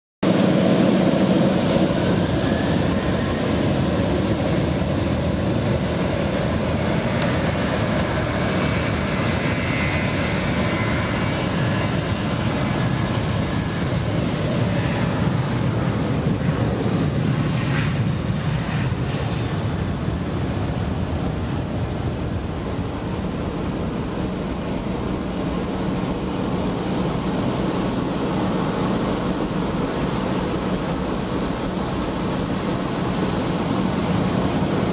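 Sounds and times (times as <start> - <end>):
faint jet whine: 0.2 - 34.9
jet engines roaring: 0.2 - 34.9.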